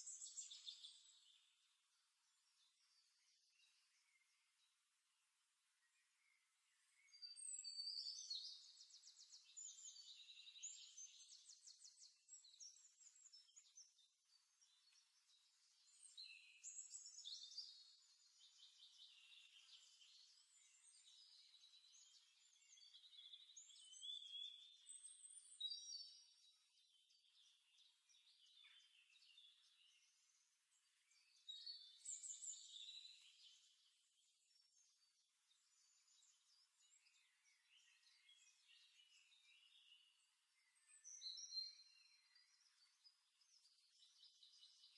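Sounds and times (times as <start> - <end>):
faint birdsong trills: 0.0 - 44.9.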